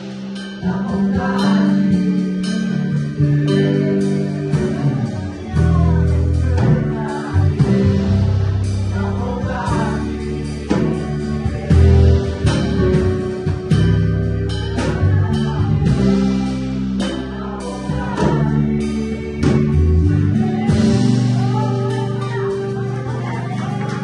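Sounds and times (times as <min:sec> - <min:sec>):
drum and cymbal hits: 0:00.0 - 0:23.2
electric bass: 0:00.0 - 0:24.0
stage piano: 0:00.0 - 0:24.0
women singing: 0:00.6 - 0:13.1, 0:14.7 - 0:24.0.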